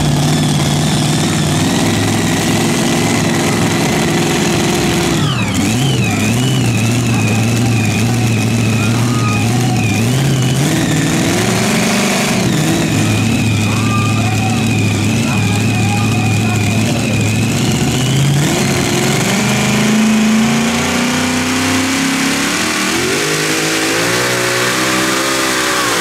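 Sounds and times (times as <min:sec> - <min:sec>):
engine running hard with whine: 0:00.0 - 0:26.0.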